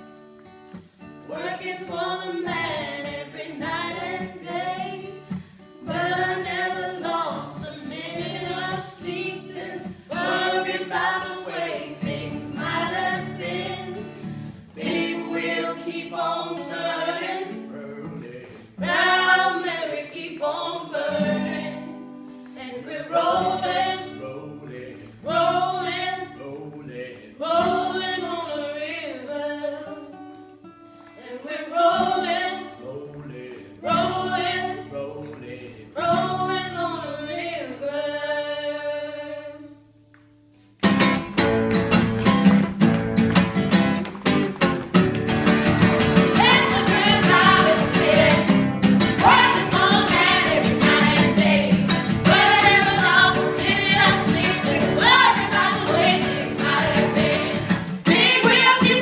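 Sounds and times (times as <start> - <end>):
acoustic guitar: 0.0 - 59.0
group of people singing: 1.2 - 22.0, 22.6 - 29.8, 31.2 - 39.8, 46.0 - 59.0.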